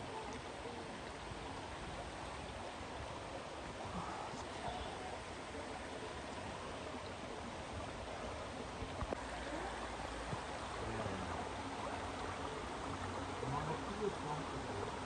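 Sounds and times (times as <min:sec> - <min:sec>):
rushing water of waterfall: 0:00.0 - 0:15.0.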